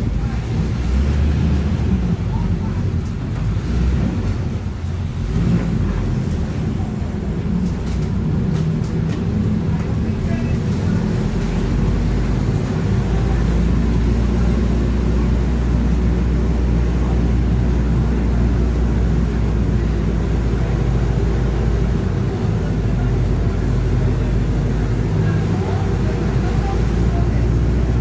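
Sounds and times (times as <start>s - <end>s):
bus diesel engine running: 0.0s - 28.0s
deep drone of differential: 0.0s - 28.0s.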